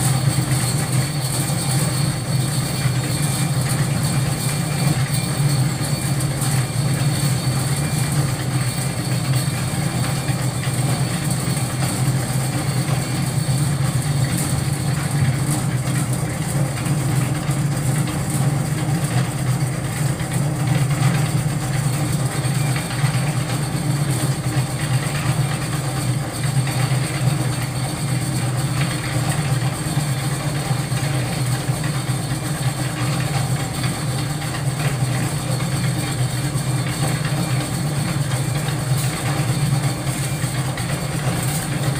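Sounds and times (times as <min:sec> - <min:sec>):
concrete mixer drum running: 0:00.0 - 0:41.9.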